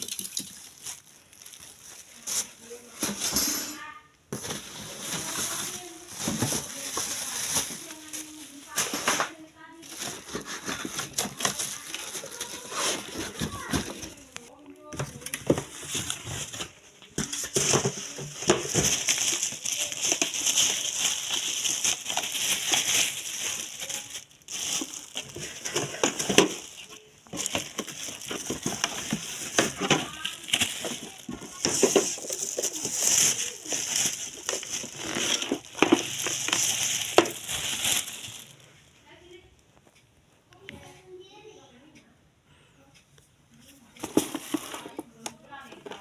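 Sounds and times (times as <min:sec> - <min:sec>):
packaging crinkling: 0:00.0 - 0:03.3, 0:04.3 - 0:38.7.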